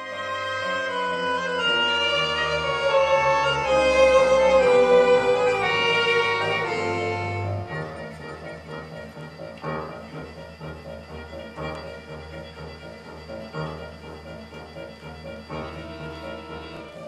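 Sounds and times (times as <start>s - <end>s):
tango ensemble playing: 0.0s - 17.0s
violins bowing slow melody: 0.0s - 17.0s.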